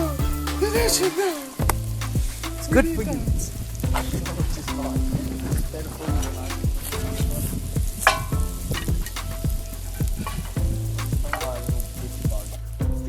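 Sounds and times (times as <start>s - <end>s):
music notes: 0.0s - 13.0s.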